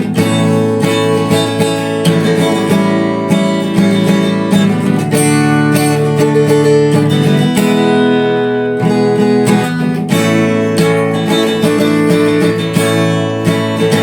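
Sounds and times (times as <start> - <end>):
acoustic guitar playing chords: 0.0 - 14.0.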